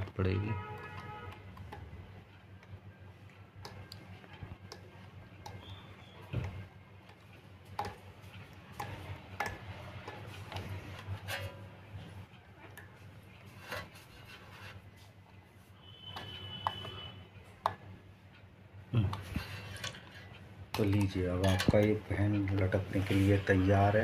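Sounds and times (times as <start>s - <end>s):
wires being handled: 0.0s - 17.0s, 19.0s - 24.0s.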